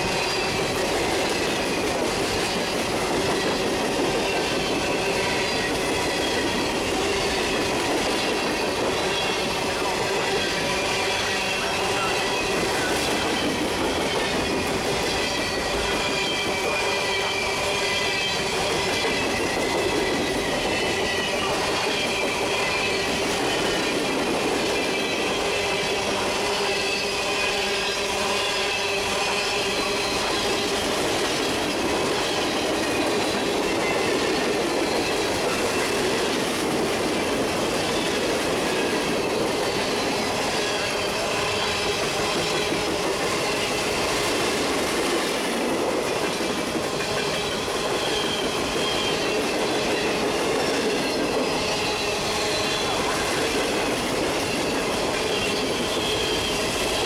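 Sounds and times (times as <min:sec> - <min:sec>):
high-pitched wheel squeal: 0:00.0 - 0:45.3, 0:46.9 - 0:57.0
train wheels rumbling on rail: 0:00.0 - 0:57.0.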